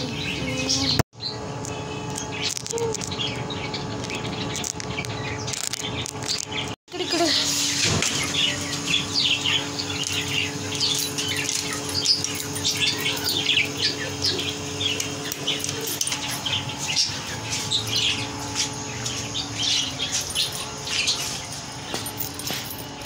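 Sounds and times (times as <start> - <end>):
small birds chirping: 0.0 - 7.5, 8.1 - 22.8.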